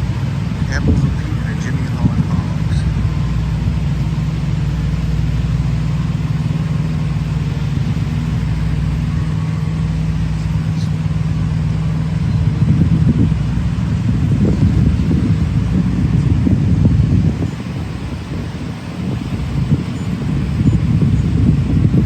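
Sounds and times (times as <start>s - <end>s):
rough low rumble: 0.0s - 22.0s
truck diesel engine idling: 0.0s - 22.0s.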